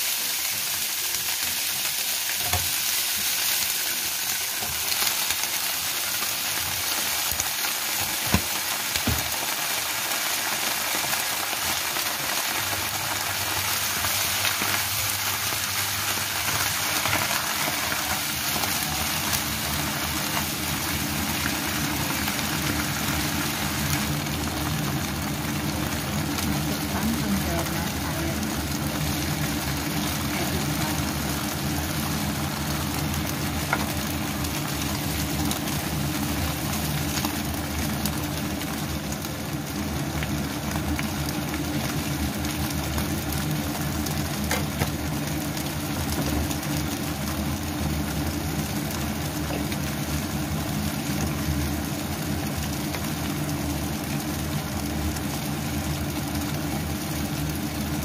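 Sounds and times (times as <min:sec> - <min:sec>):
food cooking in a wok: 0:00.0 - 0:58.0
steady mechanical hum: 0:01.6 - 0:58.0.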